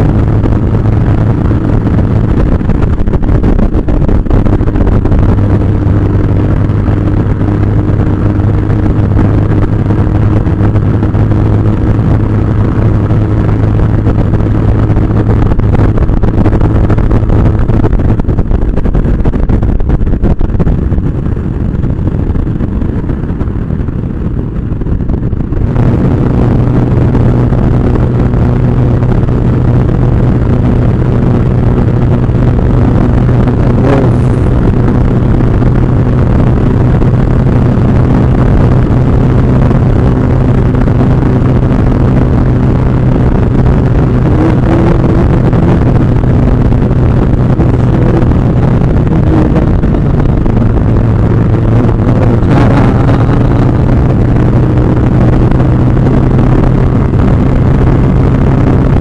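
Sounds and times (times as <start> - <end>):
motorcycle engine running: 0.0 - 59.0
rushing air noise: 0.0 - 59.0.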